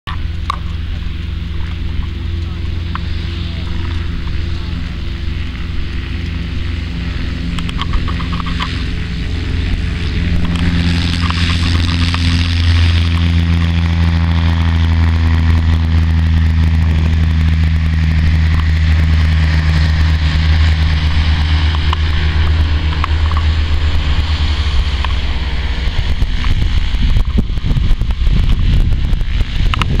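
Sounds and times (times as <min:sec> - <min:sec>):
propeller plane engine drone: 0:00.0 - 0:30.0.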